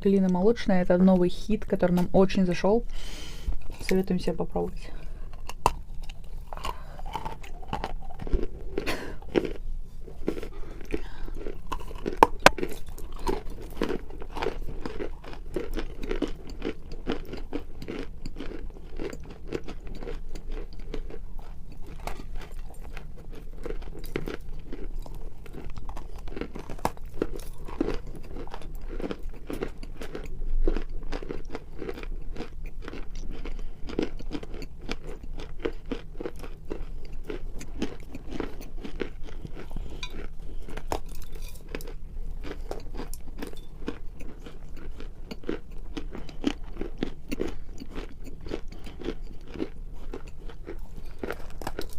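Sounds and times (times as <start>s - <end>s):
crunching and chewing clay: 3.2s - 51.9s.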